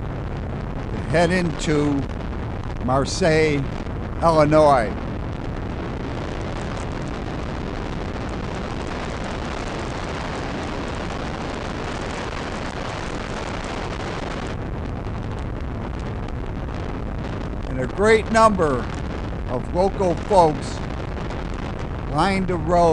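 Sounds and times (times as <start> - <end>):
wind rush on microphone: 0.0 - 22.9.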